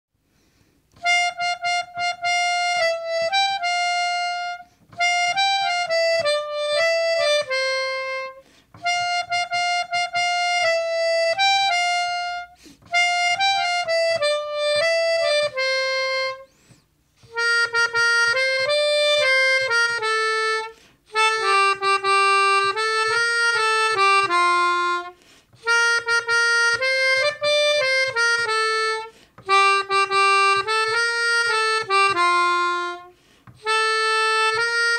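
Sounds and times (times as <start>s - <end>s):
melodica melody: 0.9s - 34.9s.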